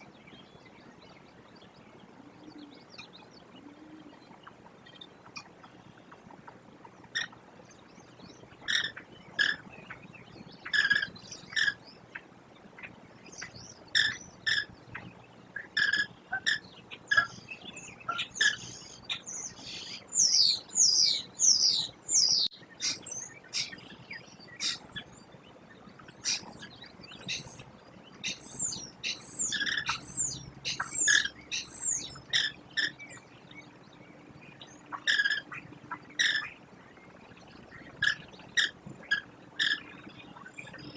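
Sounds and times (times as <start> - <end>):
kestrels calling: 2.2 - 33.8, 34.5 - 40.9.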